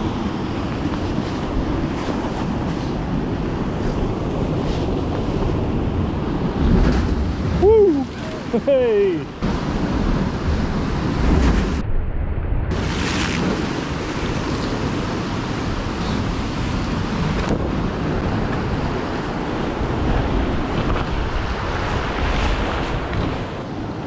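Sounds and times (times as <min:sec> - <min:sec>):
sea surf foaming over rocks: 0:00.0 - 0:11.8, 0:12.7 - 0:24.0
wind buffeting microphone: 0:00.0 - 0:24.0.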